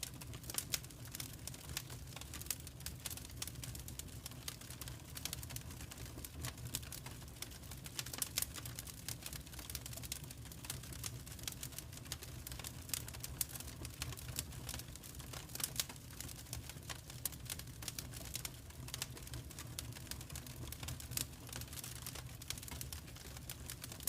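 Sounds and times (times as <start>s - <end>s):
fire snaps and pops: 0.0s - 24.0s
wood fire crackling: 0.0s - 24.0s.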